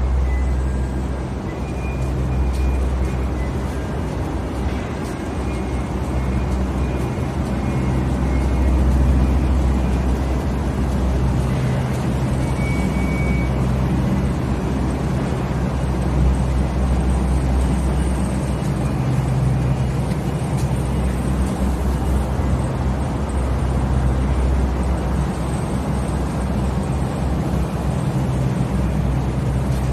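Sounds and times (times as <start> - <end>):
constant rushing noise: 0.0 - 29.9
refrigeration fans humming: 0.0 - 29.9.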